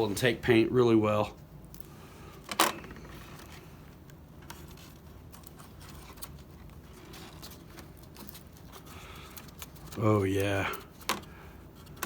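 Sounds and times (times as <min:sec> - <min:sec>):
faint clicks and rustles: 0:01.7 - 0:12.0.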